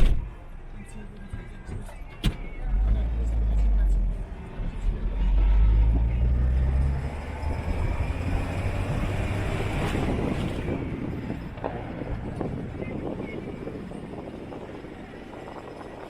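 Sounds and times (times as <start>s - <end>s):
rushing road noise: 0.0s - 16.0s
vehicle engine drone: 0.0s - 16.0s.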